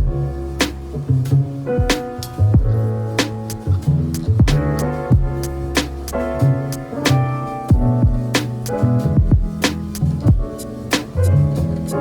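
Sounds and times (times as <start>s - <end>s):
beat-driven music with bass: 0.0s - 12.0s.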